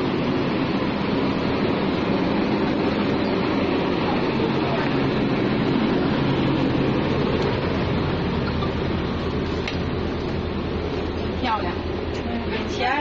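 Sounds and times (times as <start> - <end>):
mechanical drone with low hum: 0.0 - 13.0.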